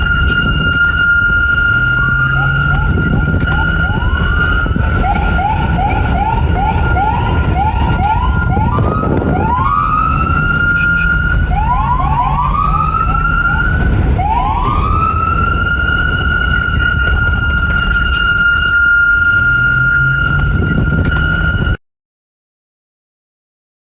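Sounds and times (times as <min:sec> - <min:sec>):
heavy low rumble: 0:00.0 - 0:21.8
police siren: 0:00.0 - 0:21.8.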